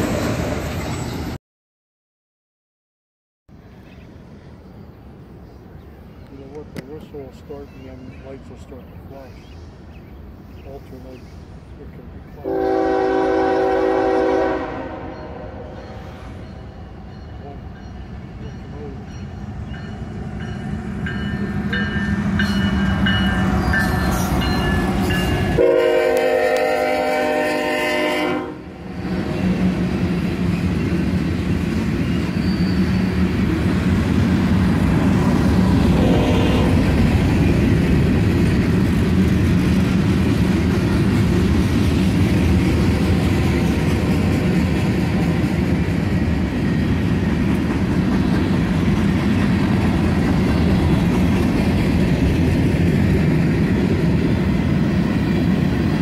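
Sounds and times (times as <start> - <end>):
freight train wheels rumbling: 0.0 - 1.4, 4.2 - 56.0.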